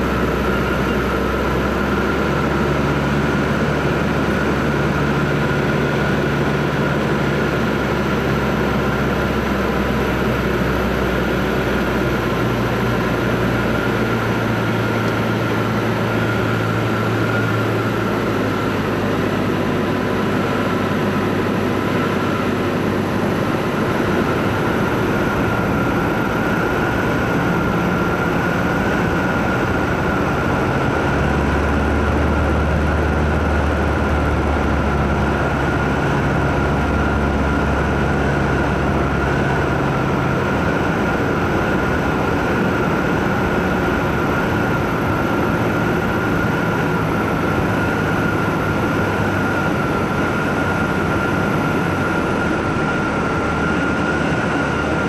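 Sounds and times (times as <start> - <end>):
aircraft engine and propeller droning: 0.0 - 55.0.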